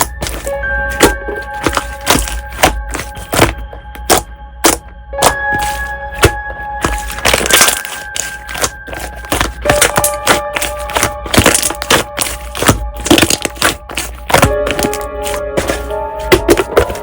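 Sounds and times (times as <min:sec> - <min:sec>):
slime clicking and crackling: 0:00.0 - 0:17.0
soft background music: 0:00.0 - 0:17.0.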